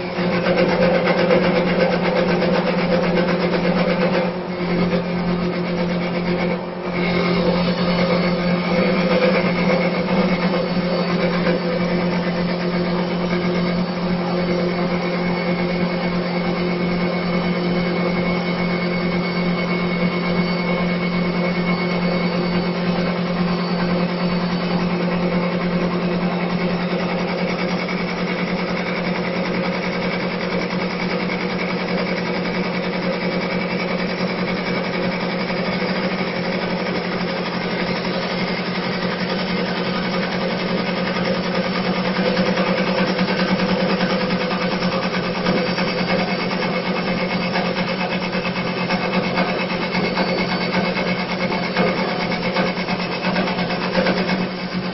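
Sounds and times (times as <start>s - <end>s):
lathe motor humming and whining: 0.0s - 54.9s.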